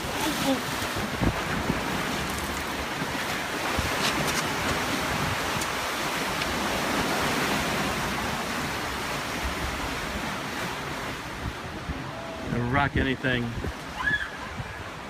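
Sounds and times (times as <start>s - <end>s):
rushing white water: 0.0s - 15.0s.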